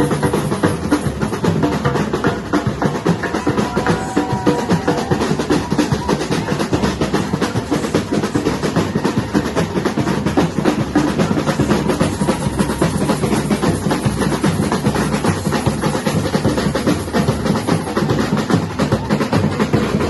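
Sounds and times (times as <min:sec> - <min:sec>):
samba drum ensemble: 0:00.0 - 0:20.0.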